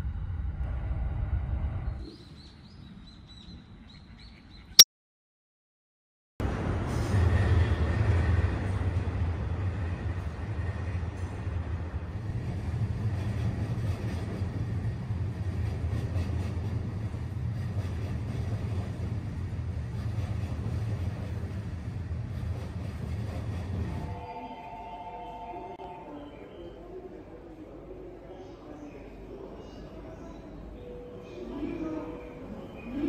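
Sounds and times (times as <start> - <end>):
train rumbling on tracks: 0.0 - 2.2, 6.4 - 33.0.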